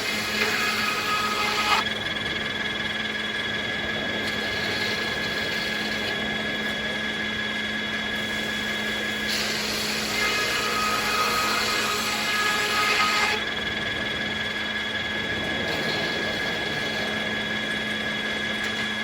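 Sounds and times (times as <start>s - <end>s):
sawmill machine hum and whine: 0.0s - 19.0s.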